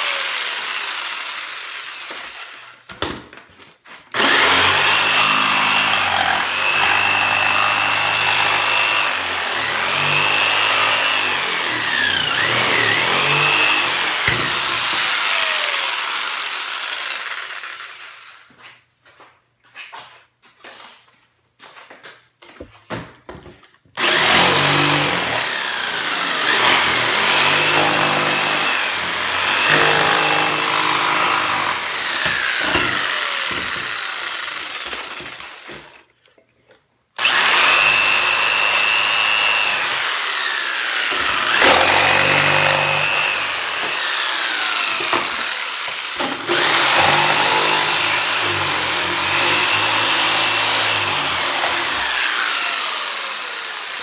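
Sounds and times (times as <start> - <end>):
jigsaw cutting plywood: 0.0 - 3.2, 4.1 - 18.5, 23.9 - 36.1, 37.2 - 54.0.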